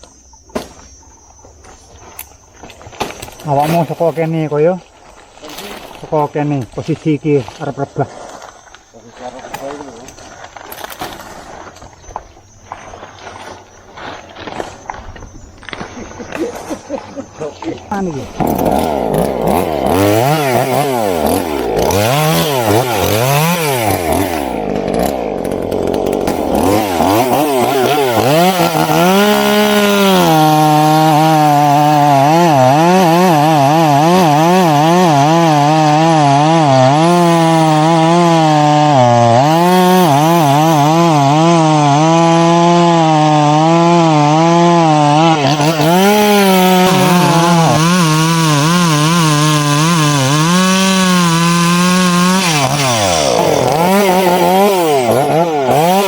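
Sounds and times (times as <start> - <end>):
chainsaw cutting wood: 2.2 - 4.4, 8.2 - 17.1, 17.7 - 56.0.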